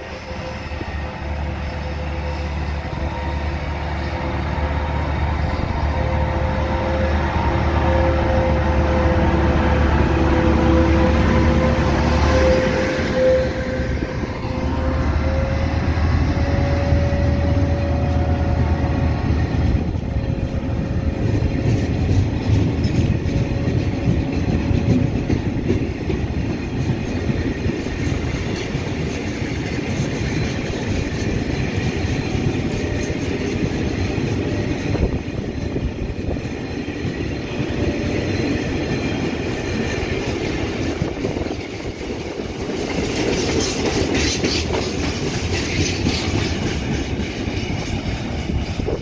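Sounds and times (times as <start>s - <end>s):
train wheels rumbling and clacking: 0.0s - 49.0s.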